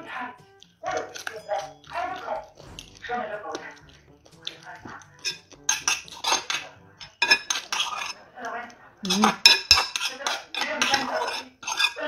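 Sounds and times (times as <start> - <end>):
metal spoon scraping metal bowl: 0.9 - 12.0.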